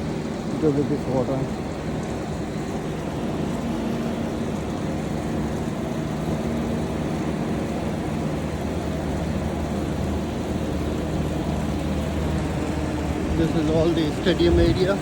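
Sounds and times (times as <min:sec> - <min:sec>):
falling rain: 0:00.0 - 0:15.0
vehicle engine droning: 0:03.0 - 0:15.0.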